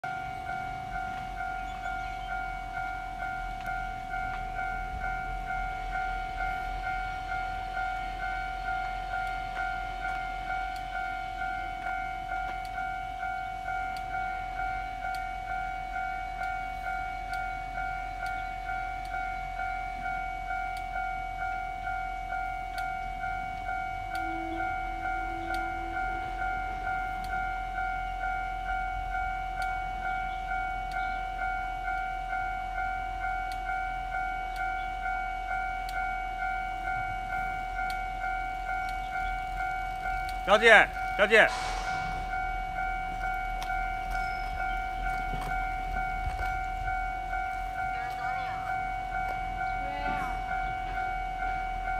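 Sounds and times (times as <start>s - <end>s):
level crossing warning bell ringing: 0.0s - 51.9s.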